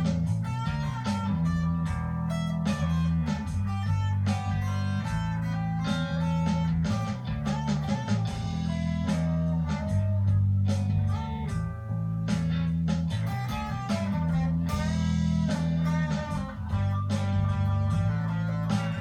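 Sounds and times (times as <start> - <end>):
blues-rock backing track: 0.0 - 19.0
electric guitar lead with bends: 0.0 - 19.0.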